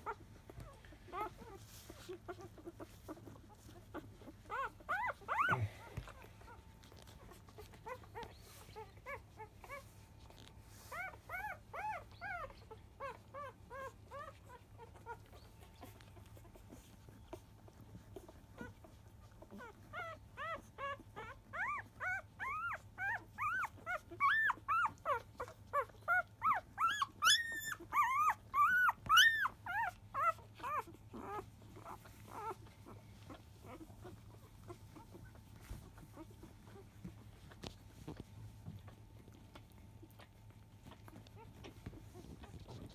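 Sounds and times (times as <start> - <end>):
puppies squeaking and whimpering: 0.0 - 42.9.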